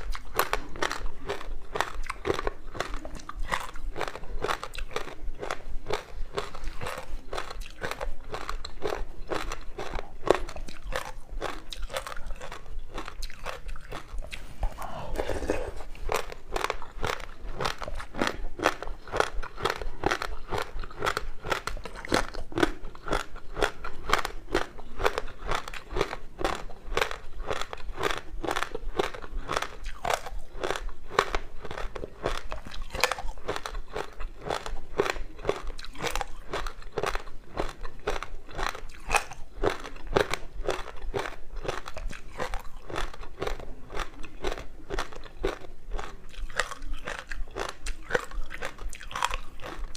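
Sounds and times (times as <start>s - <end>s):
crunchy ice being chewed: 0.0s - 49.9s.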